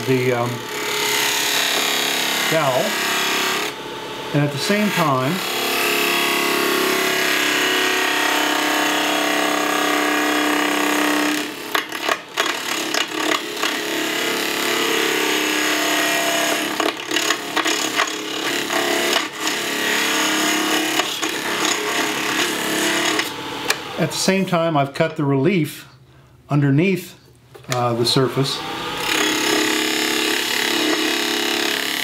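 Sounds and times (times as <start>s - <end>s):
wood lathe spinning: 0.0s - 24.0s, 28.5s - 32.0s
turning tool cutting wood: 0.0s - 24.1s, 27.7s - 32.0s.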